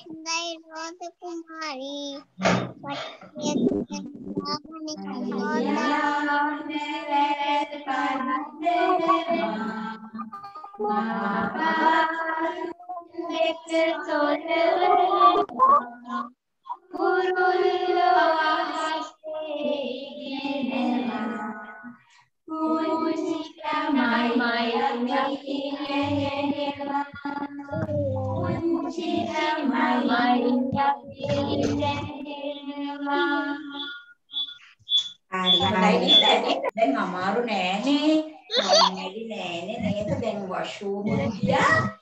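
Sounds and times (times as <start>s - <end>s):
children's song singing with music: 0.0s - 34.6s, 35.3s - 42.0s.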